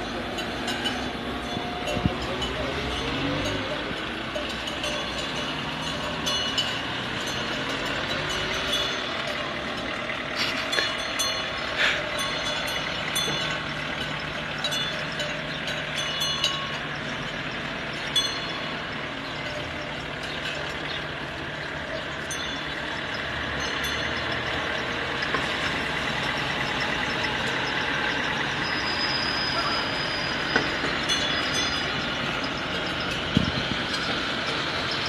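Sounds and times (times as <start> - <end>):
sharp clinks and clatters: 0.0 - 35.0
vehicle engine running: 0.0 - 35.0.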